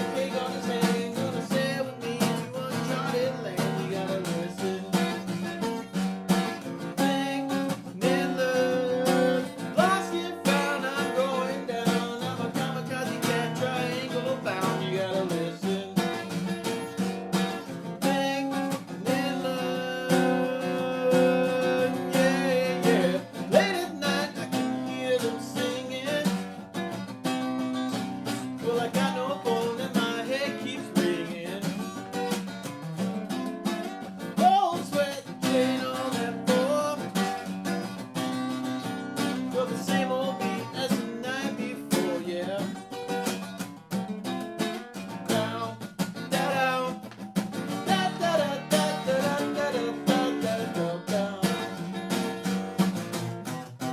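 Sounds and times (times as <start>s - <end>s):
ringing guitar chords: 0.0s - 53.9s.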